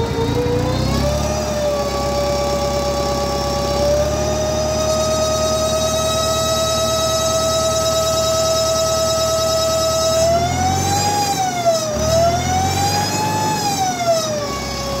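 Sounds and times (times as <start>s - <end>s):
blower whine: 0.0s - 15.0s
engine rumble: 0.0s - 15.0s.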